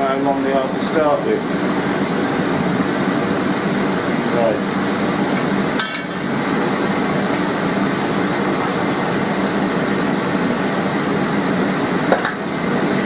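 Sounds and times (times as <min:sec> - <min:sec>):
air blower rushing: 0:00.0 - 0:13.0.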